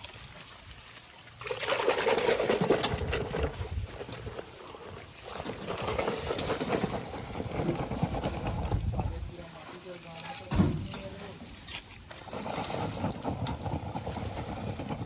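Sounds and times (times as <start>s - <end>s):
water splashing and pouring: 0.0s - 15.0s.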